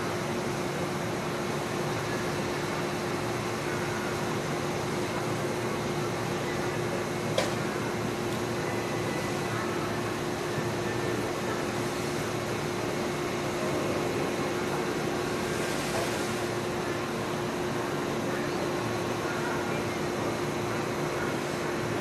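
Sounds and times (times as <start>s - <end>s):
train and wash machinery hum: 0.0s - 22.0s.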